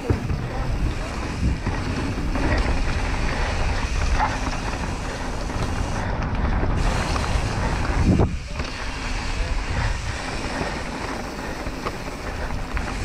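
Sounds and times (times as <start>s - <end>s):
bike clicks and rattles: 0.0s - 13.0s
mountain bike rumbling on dirt trail: 0.0s - 13.0s
wind buffeting microphone: 0.0s - 13.0s.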